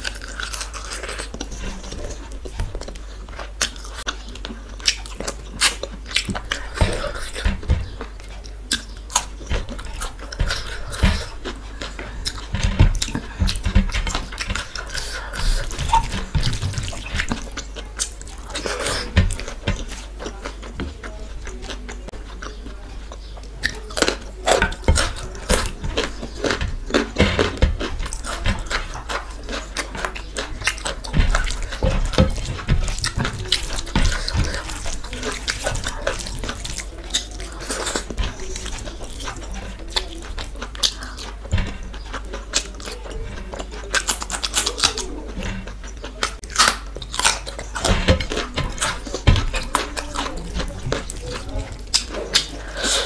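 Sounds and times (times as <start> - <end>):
wet chewing and lip smacking: 0.0 - 53.0.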